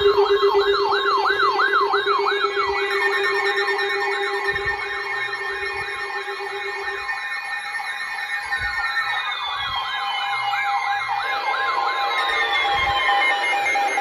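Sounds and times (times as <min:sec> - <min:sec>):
fast siren-like alarm warbles: 0:00.0 - 0:14.0.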